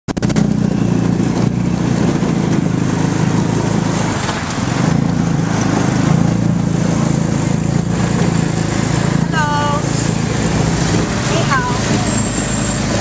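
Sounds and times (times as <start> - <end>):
small vehicle engine running: 0.1 - 13.0.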